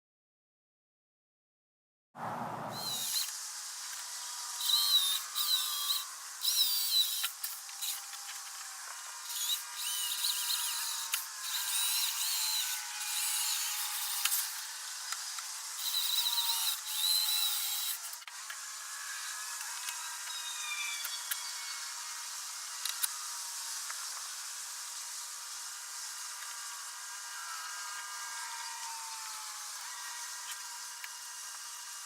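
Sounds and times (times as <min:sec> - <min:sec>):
power drill driving screws: 0:02.7 - 0:24.3, 0:26.3 - 0:32.0.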